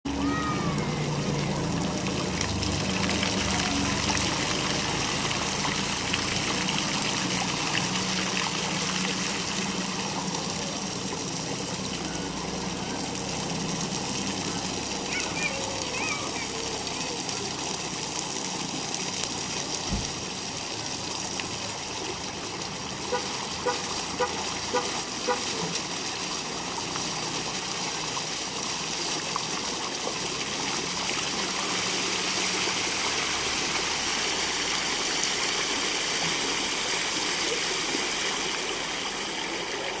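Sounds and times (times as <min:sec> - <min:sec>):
fountain water splashing: 0:00.1 - 0:40.0.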